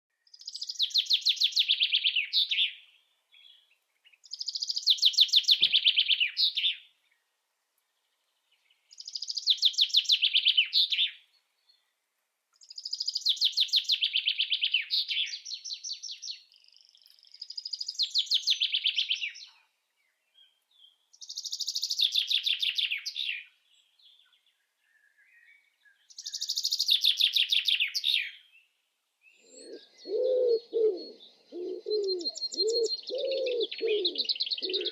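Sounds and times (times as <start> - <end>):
songbird trilling song: 0.1 - 7.3, 7.9 - 34.9.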